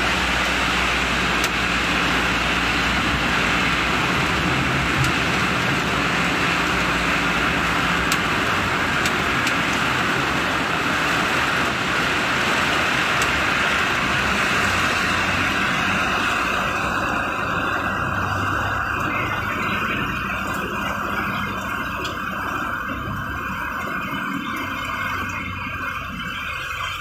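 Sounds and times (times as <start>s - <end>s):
heavy rain and tyre spray: 0.0s - 27.0s
low engine hum: 0.0s - 27.0s.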